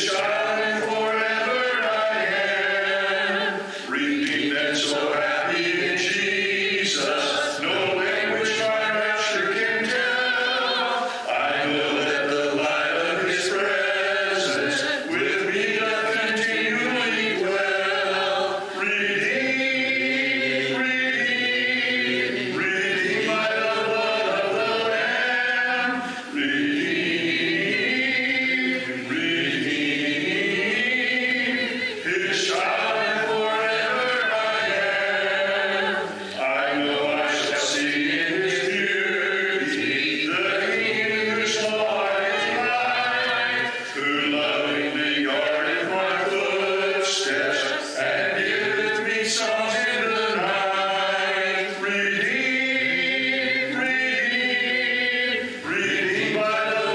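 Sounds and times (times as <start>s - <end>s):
congregation singing a hymn: 0.0s - 56.9s.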